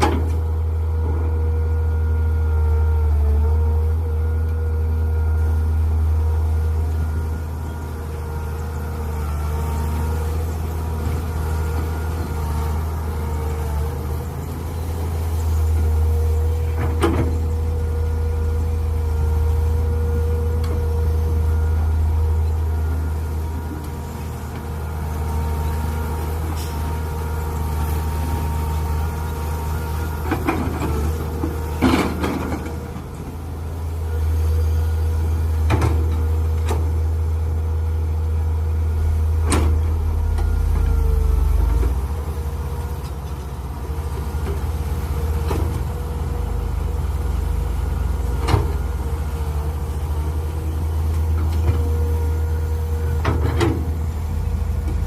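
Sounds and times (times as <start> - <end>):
excavator engine running: 0.0 - 55.0.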